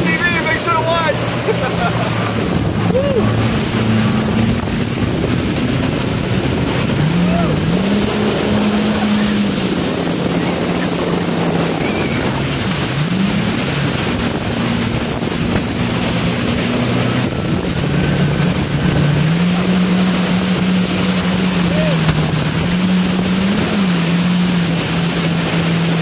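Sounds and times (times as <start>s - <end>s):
water splashing against hull: 0.0s - 26.0s
watercraft engine running: 0.0s - 26.0s
wind on microphone: 0.0s - 26.0s.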